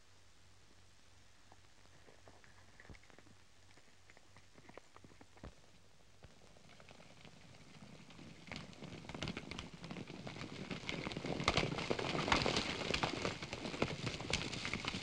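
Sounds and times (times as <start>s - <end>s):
horses galloping on dirt: 1.6s - 15.0s.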